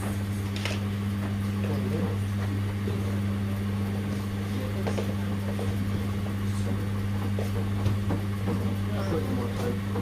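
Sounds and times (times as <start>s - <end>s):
washing machines humming: 0.0s - 10.0s.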